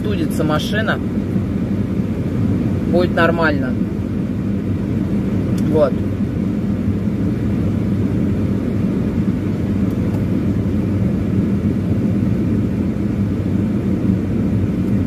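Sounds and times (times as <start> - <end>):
air-conditioning fan blowing: 0.0 - 15.0
engine low hum: 0.0 - 15.0.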